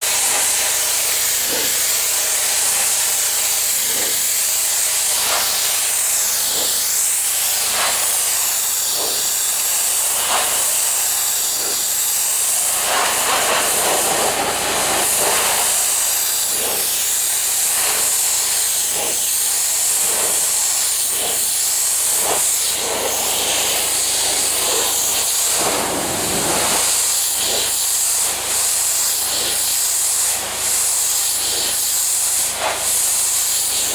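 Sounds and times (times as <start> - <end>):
pressure washer spraying: 0.2 - 28.0.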